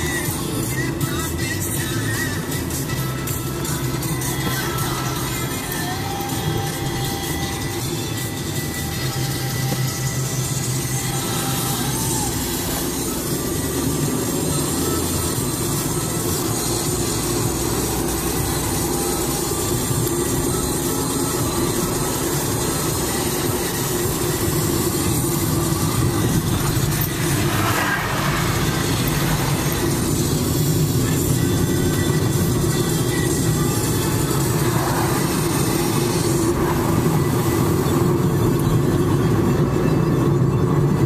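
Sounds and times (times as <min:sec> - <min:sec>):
car engine: 0:00.0 - 0:41.0
road noise inside car: 0:00.0 - 0:41.0.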